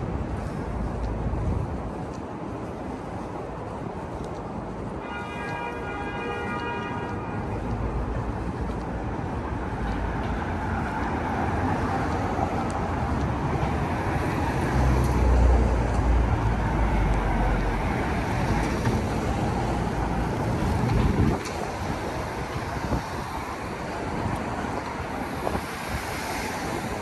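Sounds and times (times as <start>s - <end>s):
city traffic noise: 0.0s - 27.0s.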